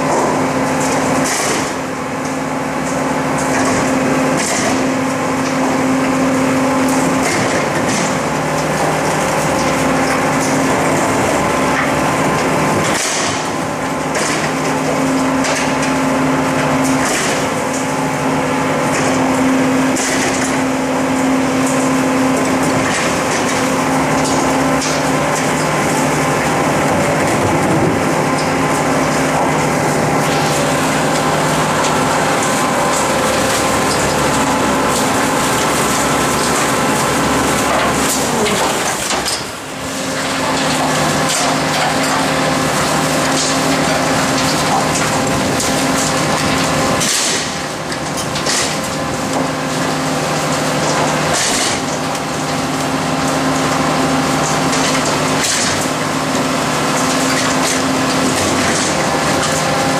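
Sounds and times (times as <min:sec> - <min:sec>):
garbage truck hydraulics humming: 0:00.0 - 0:59.9.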